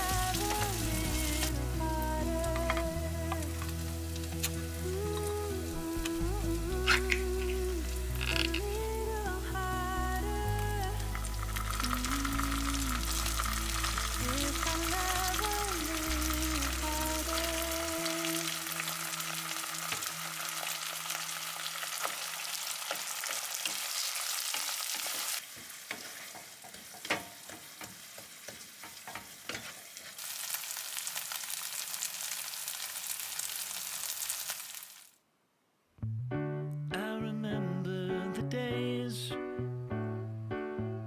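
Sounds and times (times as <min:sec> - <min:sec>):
onions and tomato sizzling in oil: 0:00.0 - 0:09.1, 0:10.2 - 0:35.2.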